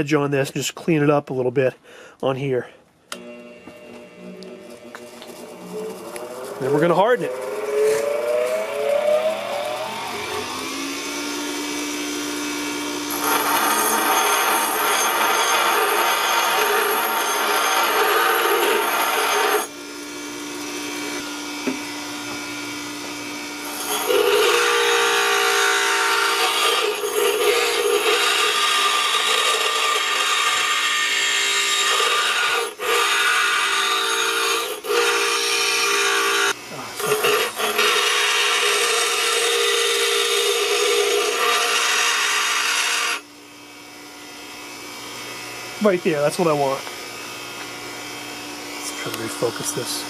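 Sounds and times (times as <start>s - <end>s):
bench grinder humming: 3.1s - 50.0s.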